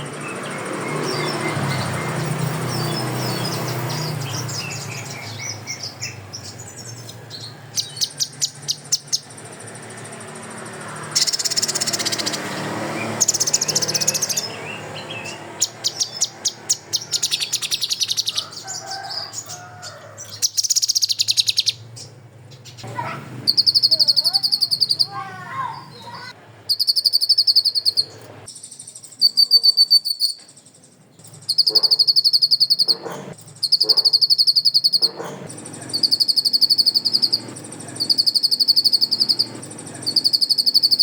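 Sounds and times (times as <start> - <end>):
songbird rattling trills and chirps: 0.0 - 41.0.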